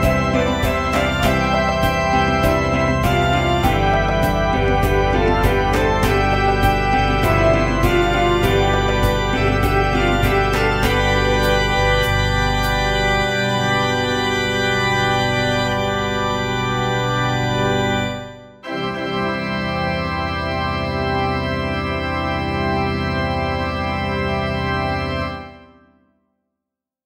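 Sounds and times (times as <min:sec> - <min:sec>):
held organ chords: 0:00.0 - 0:26.0.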